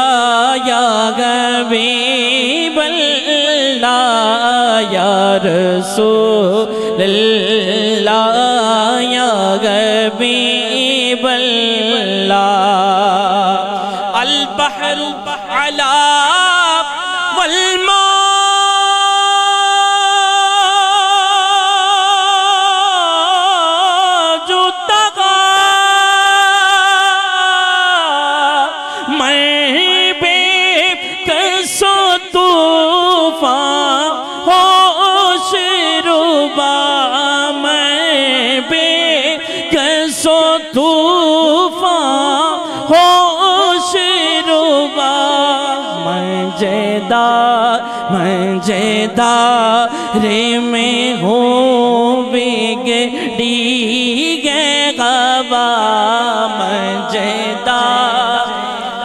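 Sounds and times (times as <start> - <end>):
man singing into a microphone: 0.0 - 59.0.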